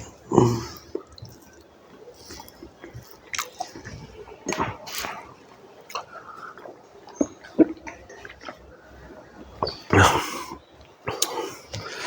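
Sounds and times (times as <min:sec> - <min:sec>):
wet chewing and smacking: 0:00.0 - 0:12.0.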